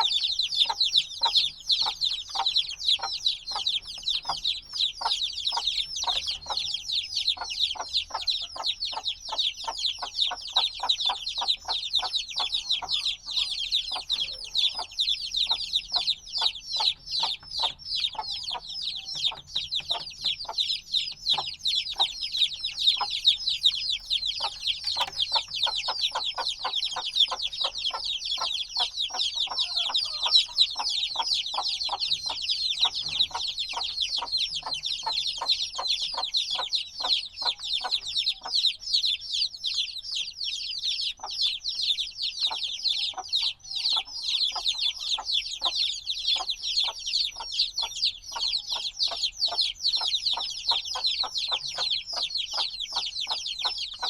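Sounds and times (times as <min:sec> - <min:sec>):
chicks chirping: 0:00.0 - 0:54.0.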